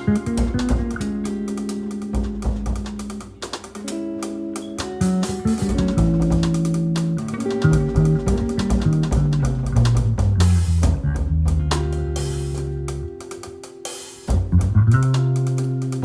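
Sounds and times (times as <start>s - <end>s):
electric bass: 0.0s - 13.6s, 14.3s - 16.0s
drum kit: 0.0s - 16.0s
electric guitar: 0.0s - 16.0s.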